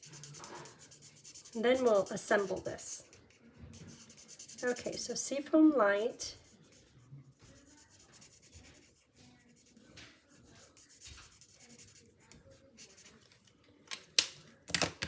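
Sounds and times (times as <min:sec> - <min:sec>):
marker scratching on cardstock: 0:00.0 - 0:05.4, 0:06.3 - 0:13.3.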